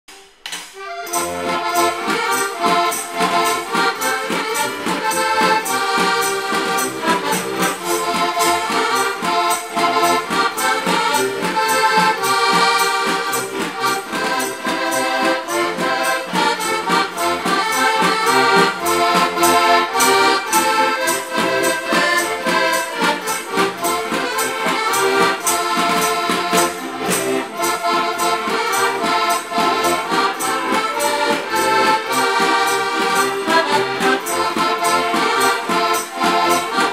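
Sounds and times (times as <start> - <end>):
accordions playing folk tune: 0.1 - 36.9.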